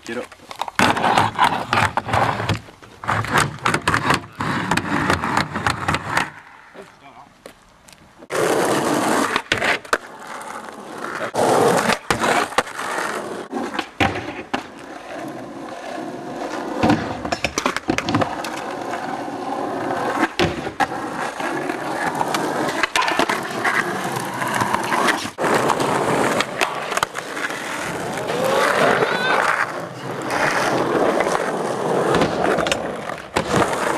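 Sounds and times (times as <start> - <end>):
skateboard wheels rolling on asphalt: 0.0 - 33.9
skateboard clacking and scraping: 0.1 - 6.6, 7.9 - 33.9.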